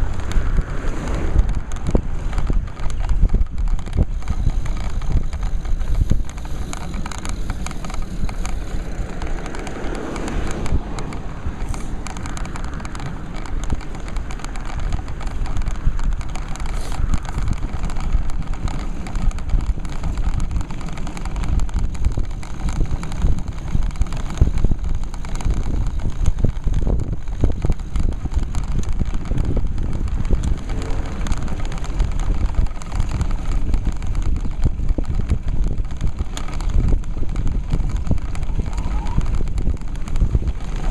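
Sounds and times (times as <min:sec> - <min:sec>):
road vibration rattles: 0:00.0 - 0:40.9
wind buffeting: 0:00.0 - 0:40.9.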